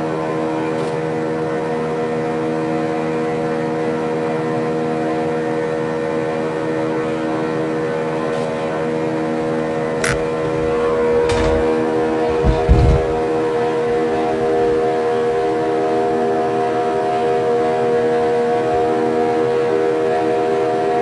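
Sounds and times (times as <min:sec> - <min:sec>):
helicopter rotors drone: 0:00.0 - 0:21.0.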